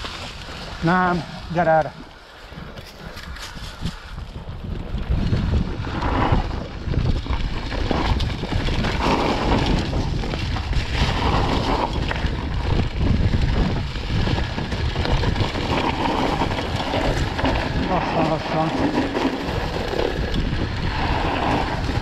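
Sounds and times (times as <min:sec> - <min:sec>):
bike rumbling and rattling on trail: 0:00.0 - 0:22.0
wind buffeting microphone: 0:00.0 - 0:22.0.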